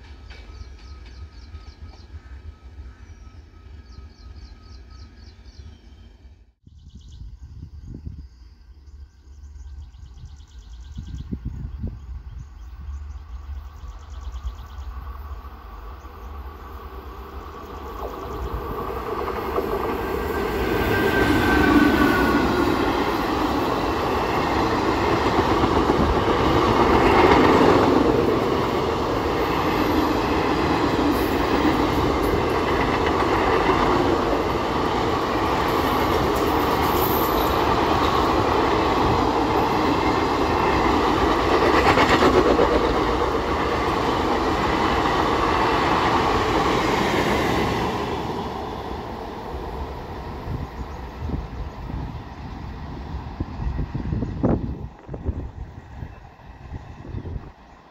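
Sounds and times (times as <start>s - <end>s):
train passing at high speed: 0.0s - 6.6s, 7.4s - 57.9s.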